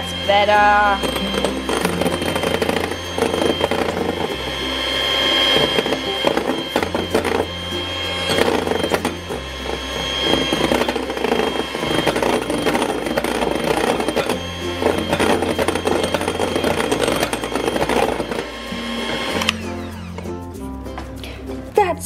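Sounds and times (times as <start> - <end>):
electric hand mixer whipping: 0.0 - 21.6.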